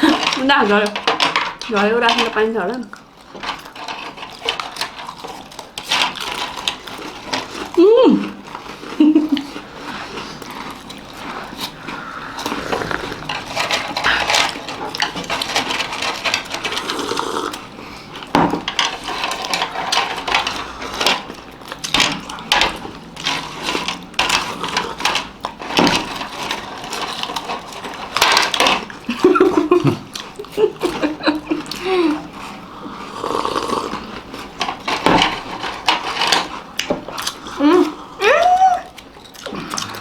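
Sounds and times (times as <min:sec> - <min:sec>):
scraping and crunching: 0:00.0 - 0:40.0.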